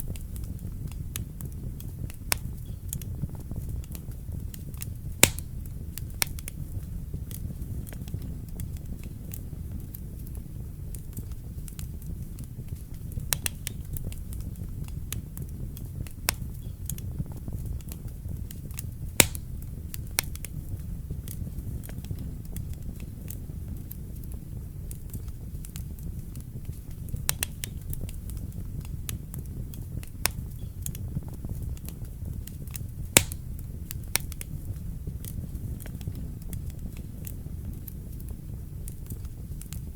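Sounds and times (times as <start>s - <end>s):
fire crackling and popping: 0.0s - 39.9s
wood fire rumbling: 0.0s - 39.9s.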